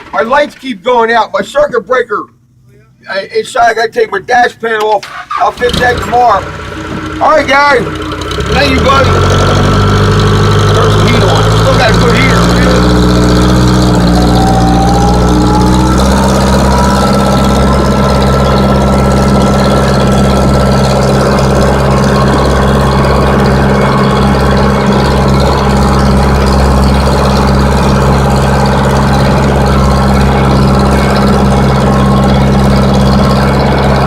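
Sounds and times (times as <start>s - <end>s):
diesel engine running: 5.0s - 34.0s
faint whine: 6.0s - 34.0s.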